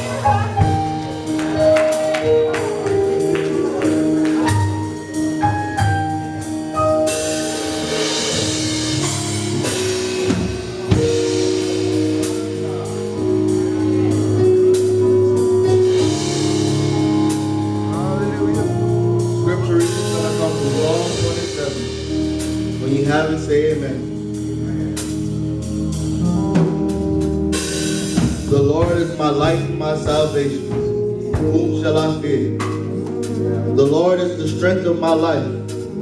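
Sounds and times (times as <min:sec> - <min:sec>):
drum kit: 0:00.0 - 0:36.0
sustained keyboard notes: 0:00.0 - 0:36.0.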